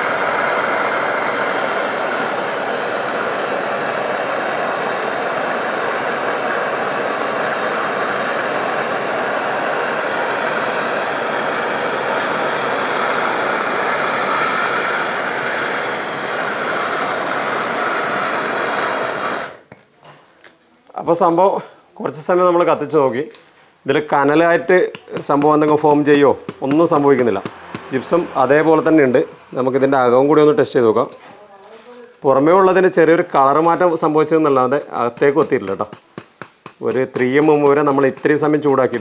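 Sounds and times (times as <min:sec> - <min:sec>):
heat gun blowing air: 0:00.0 - 0:19.7, 0:24.2 - 0:39.0.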